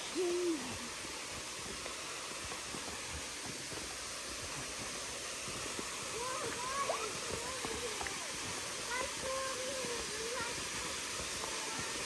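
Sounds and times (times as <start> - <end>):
waterfall rushing hiss: 0.0 - 12.0
faint footsteps on steps: 0.7 - 12.0.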